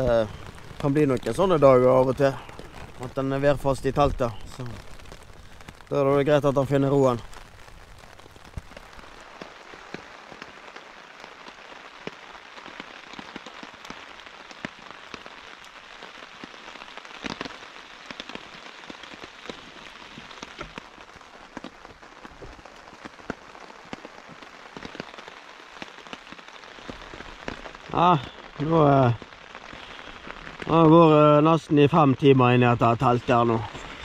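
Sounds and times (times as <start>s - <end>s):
rain on a tent: 0.0s - 34.0s.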